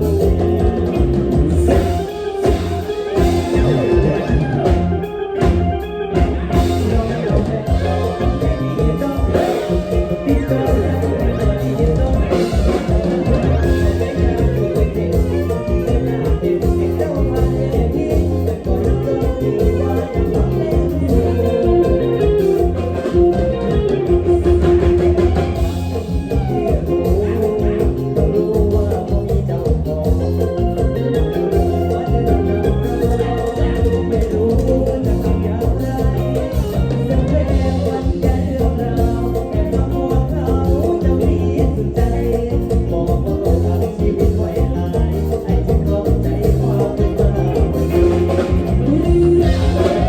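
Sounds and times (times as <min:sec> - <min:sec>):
band playing upbeat dance music: 0:00.0 - 0:50.0
prominent bass line: 0:00.0 - 0:50.0.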